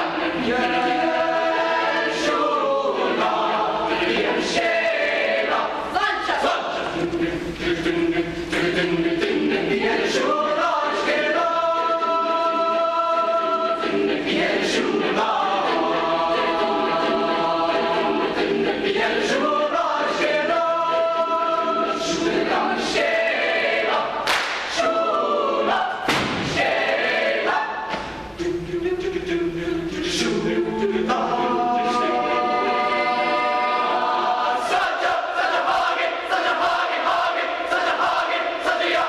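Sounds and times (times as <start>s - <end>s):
mixed choir singing chords: 0.0s - 39.0s.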